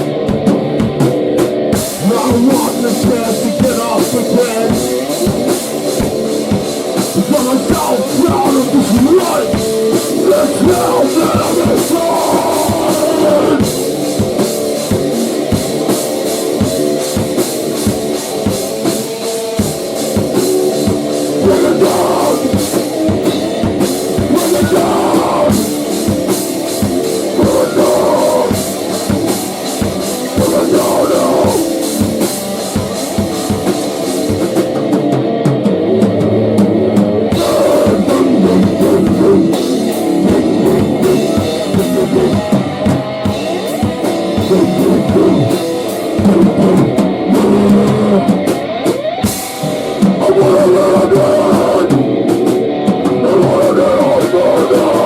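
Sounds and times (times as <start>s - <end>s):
drum kit beat: 0.0s - 55.0s
rock band playing: 0.0s - 55.0s.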